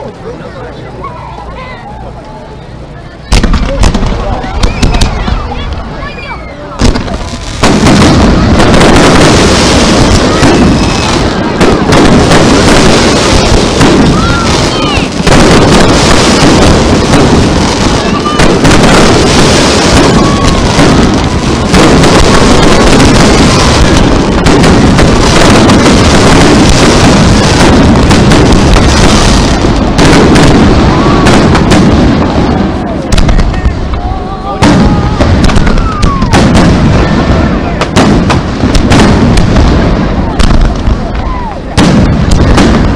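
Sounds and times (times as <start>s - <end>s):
whistling fireworks: 1.0s - 42.9s
fireworks booming and crackling: 3.2s - 42.9s.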